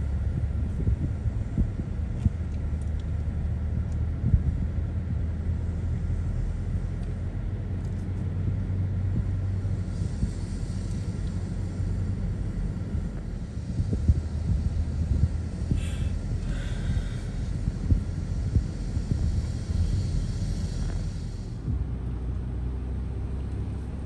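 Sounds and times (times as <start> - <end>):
car engine and tyre noise: 0.0 - 24.0.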